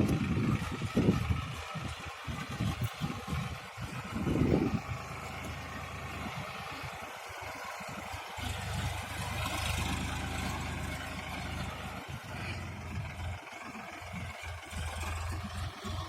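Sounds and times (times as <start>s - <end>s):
diesel tractor engine running: 0.0s - 16.0s.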